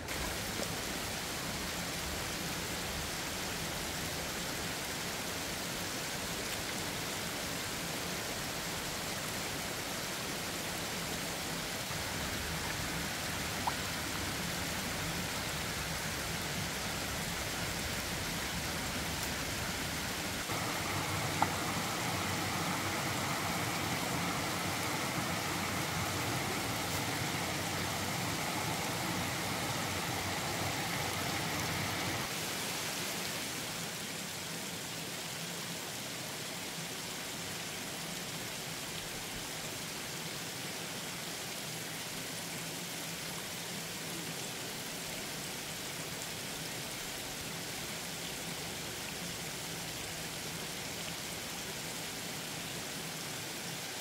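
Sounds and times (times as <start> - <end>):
hiss of water: 0.0 - 54.0.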